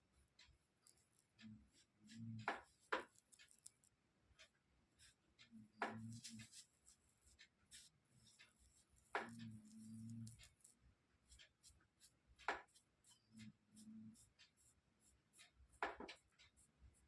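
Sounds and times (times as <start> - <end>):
faint clicks and taps: 0.0 - 17.0.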